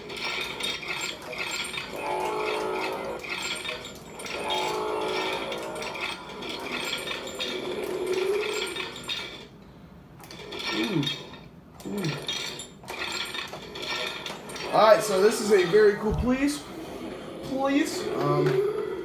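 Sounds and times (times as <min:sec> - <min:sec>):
plastic parts clattering: 0:00.0 - 0:09.5, 0:10.2 - 0:16.6.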